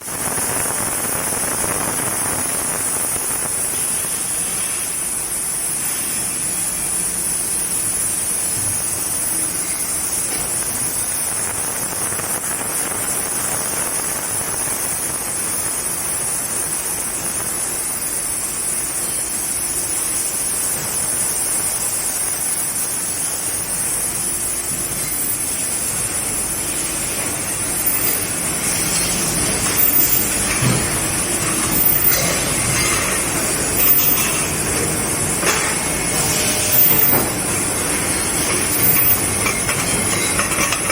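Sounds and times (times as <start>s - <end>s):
ultrasonic washing machine hissing: 0.0s - 40.9s.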